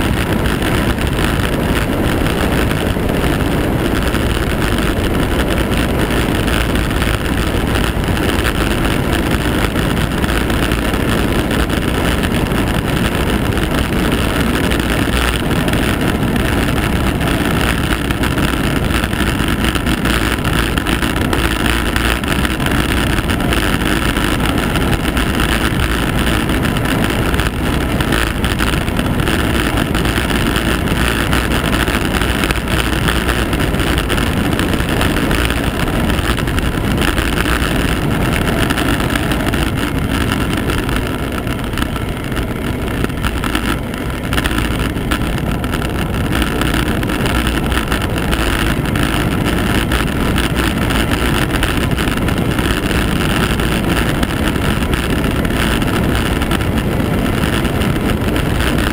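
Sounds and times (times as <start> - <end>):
wind rush on microphone: 0.0 - 58.9.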